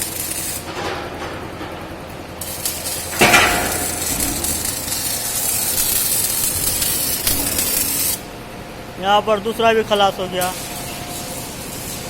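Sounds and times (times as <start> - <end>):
welding arc crackling: 0.0 - 8.7, 9.4 - 12.0.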